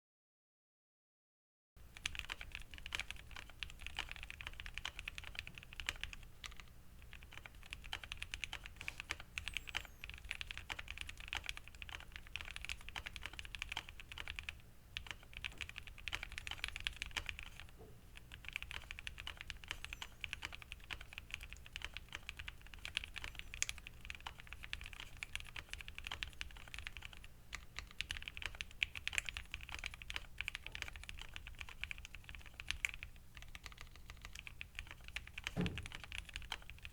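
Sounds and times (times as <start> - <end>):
mechanical keyboard typing: 1.9 - 36.9.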